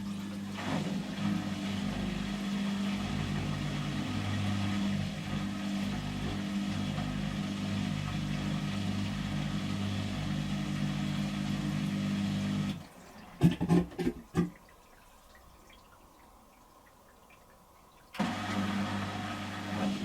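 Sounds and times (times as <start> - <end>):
washing machine drum spinning: 0.0 - 20.0.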